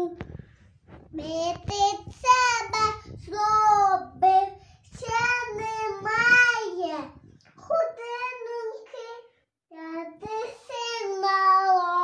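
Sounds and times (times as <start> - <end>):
girl singing unaccompanied: 1.1 - 12.0.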